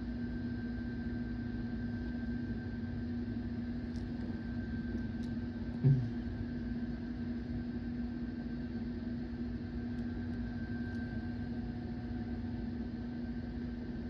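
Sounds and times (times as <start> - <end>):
low hum with rumble: 0.0 - 14.0.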